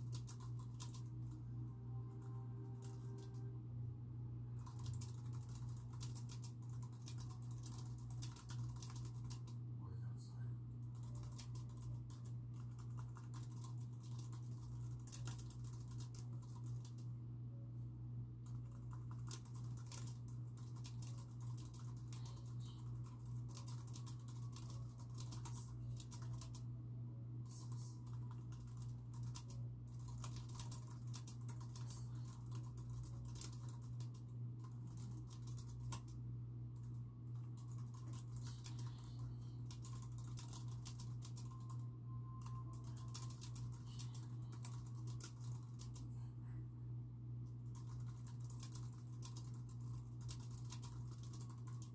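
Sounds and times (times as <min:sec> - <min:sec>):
typing on computer keyboard: 0:00.0 - 0:01.4, 0:02.2 - 0:03.5, 0:04.6 - 0:09.6, 0:10.9 - 0:17.1, 0:18.4 - 0:26.6, 0:28.0 - 0:36.2, 0:36.8 - 0:46.0, 0:47.6 - 0:51.9
steady low hum: 0:00.0 - 0:51.9.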